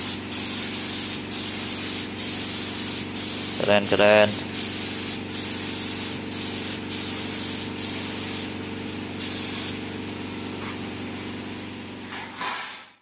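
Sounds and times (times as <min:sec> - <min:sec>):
air spray gun hissing: 0:00.0 - 0:09.9, 0:12.4 - 0:13.0.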